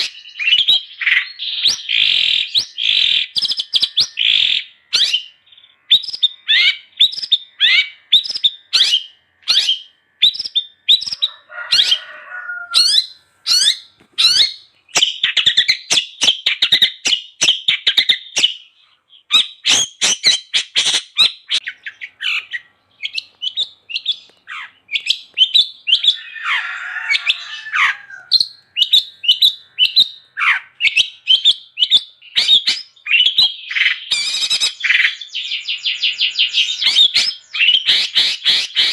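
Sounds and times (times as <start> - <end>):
bird chirps and trills: 0.0 - 38.9
harsh raspy bird calls: 0.0 - 38.9.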